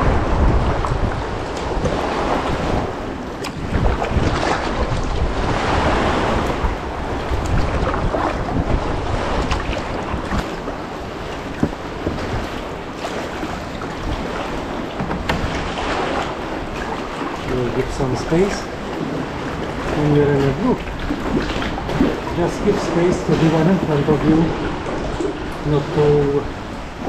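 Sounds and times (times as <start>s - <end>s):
sharp water splashes: 0.0s - 25.8s
sea water rushing: 0.0s - 27.0s
wind buffeting microphone: 0.0s - 27.0s.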